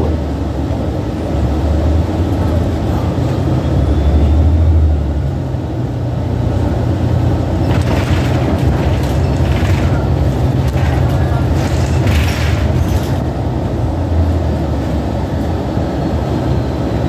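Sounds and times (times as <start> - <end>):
bus engine drone: 0.0 - 17.0
road rumble: 0.0 - 17.0.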